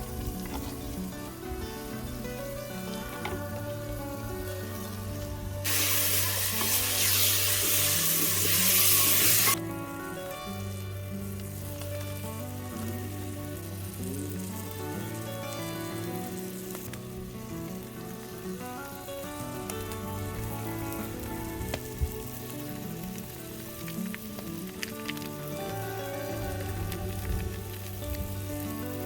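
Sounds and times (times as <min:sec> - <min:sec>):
food frying with loud sizzle: 0:00.0 - 0:29.0
music with steady bass line: 0:00.0 - 0:29.0.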